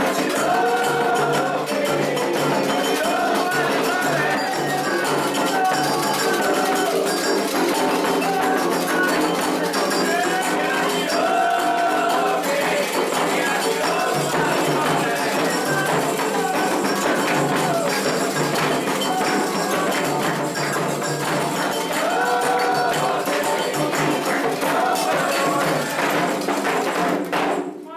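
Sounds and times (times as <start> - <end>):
metal bell rhythm: 0.0 - 27.1
hand drums: 0.0 - 27.9
voices singing: 0.0 - 27.9.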